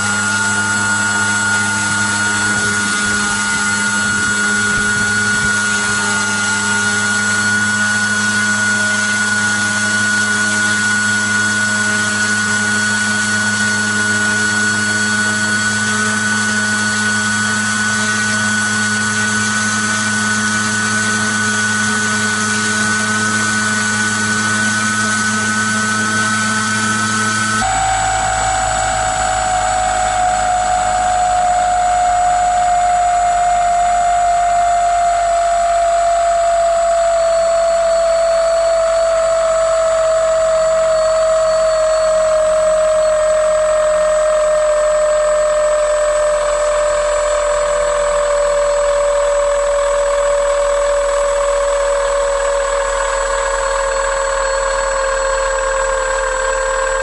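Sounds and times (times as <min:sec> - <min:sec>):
model airplane engine drone: 0:00.0 - 0:57.0.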